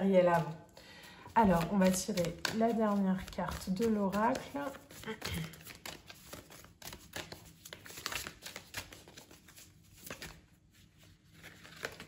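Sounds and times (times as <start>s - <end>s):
cards being shuffled: 1.4s - 10.4s, 11.3s - 12.0s.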